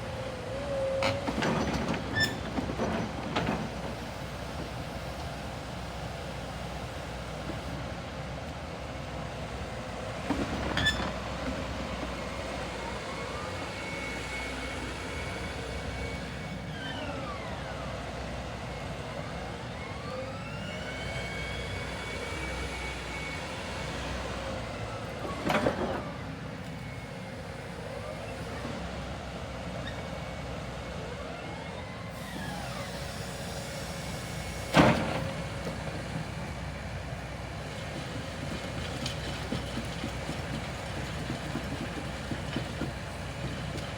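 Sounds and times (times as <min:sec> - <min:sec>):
excavator whining: 0:00.0 - 0:07.8, 0:09.8 - 0:43.9.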